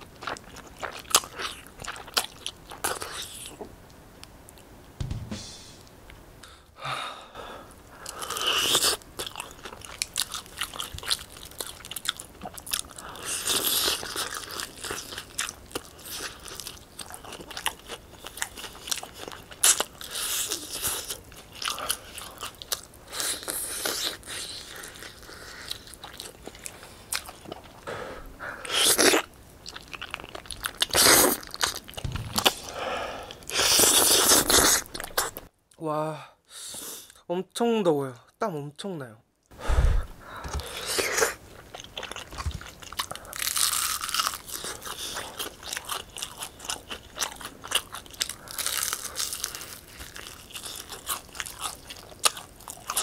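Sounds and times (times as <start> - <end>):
chewing crunchy fried chicken: 0.0 - 3.6, 8.0 - 27.9, 28.6 - 32.7, 33.3 - 35.5, 40.4 - 53.0.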